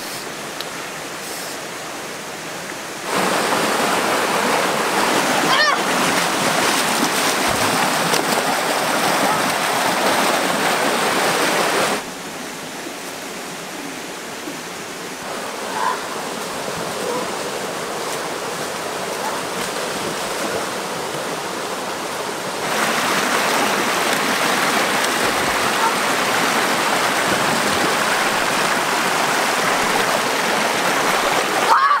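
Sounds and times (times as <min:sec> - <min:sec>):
stream running over stones: 0:00.0 - 0:32.0.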